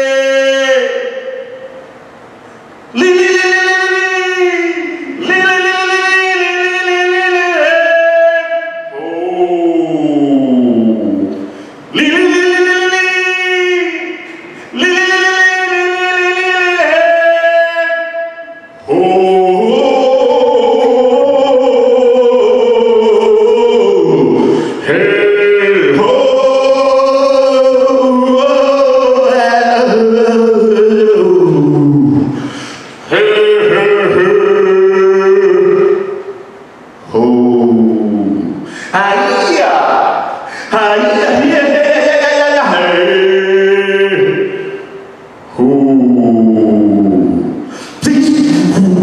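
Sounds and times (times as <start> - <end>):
man singing long note: 0.0 - 2.0, 2.9 - 49.0.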